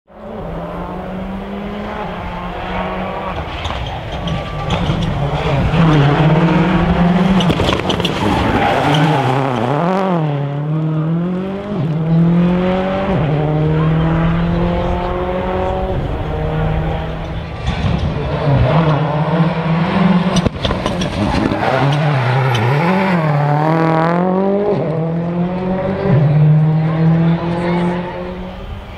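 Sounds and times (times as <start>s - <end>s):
rally car engine revving: 0.1s - 28.9s.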